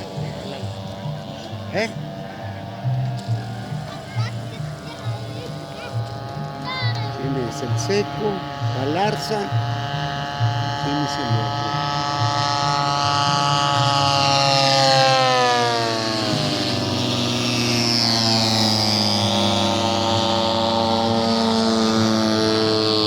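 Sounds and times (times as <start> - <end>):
model airplane engine running: 0.0 - 23.0.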